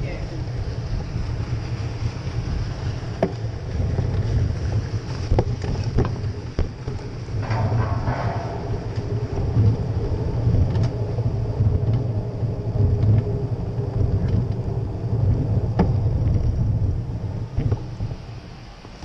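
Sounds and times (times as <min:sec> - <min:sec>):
tyres rolling over paving stones: 0:00.0 - 0:19.0
wind on microphone: 0:00.0 - 0:19.0
bike clicks and rattles: 0:00.4 - 0:19.0.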